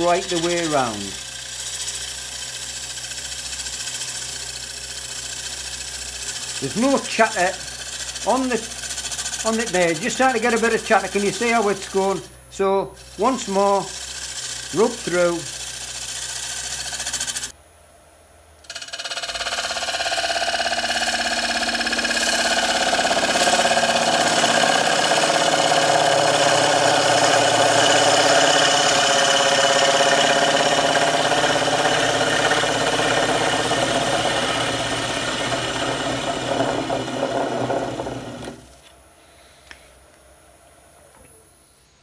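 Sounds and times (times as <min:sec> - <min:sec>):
lathe running hum: 0:00.0 - 0:17.5, 0:18.6 - 0:38.9
scraper cutting wood on lathe: 0:00.0 - 0:17.5, 0:18.6 - 0:38.8.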